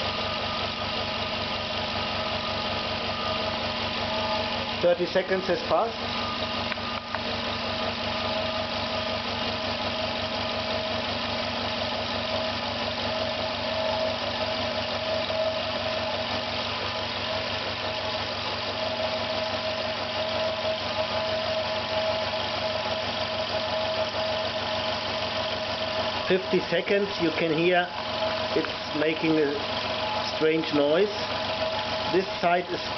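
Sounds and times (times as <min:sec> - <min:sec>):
air compressor chugging: 0:00.0 - 0:32.9
compressor whine: 0:00.0 - 0:32.9.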